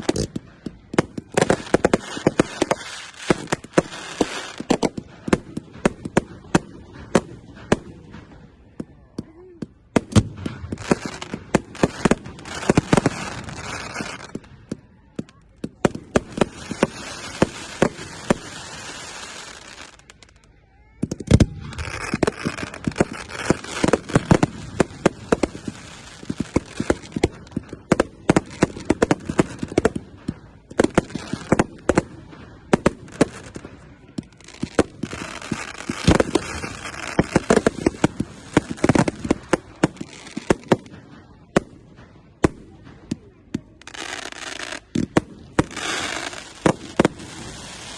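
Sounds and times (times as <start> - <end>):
firework bangs: 0.0 - 47.9
firework crackle: 0.0 - 47.9.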